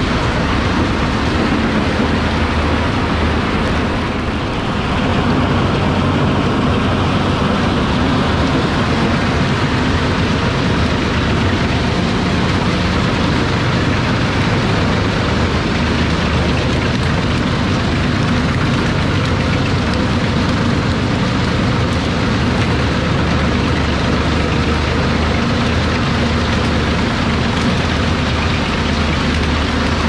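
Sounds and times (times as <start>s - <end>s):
drum chipper chipping wood: 0.0s - 30.0s
tractor engine drone: 0.0s - 30.0s.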